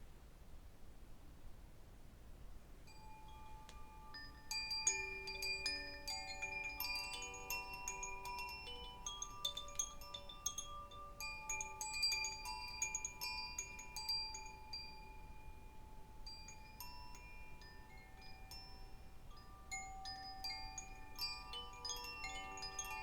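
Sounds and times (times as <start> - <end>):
metal chimes ringing: 2.9 - 23.0.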